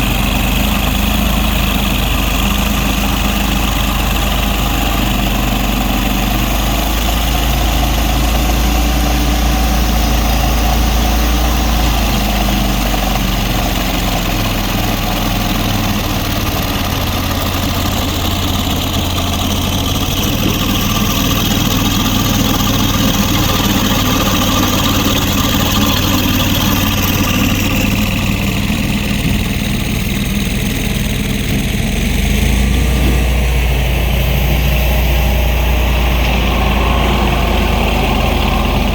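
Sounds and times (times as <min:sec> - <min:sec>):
heavy engine idling: 0:00.0 - 0:38.9.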